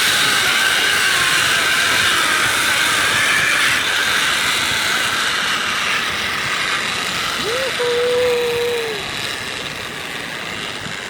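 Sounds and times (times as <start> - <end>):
pulleys whining on steel cable: 0.0 - 11.0
steady rushing noise: 0.0 - 11.0.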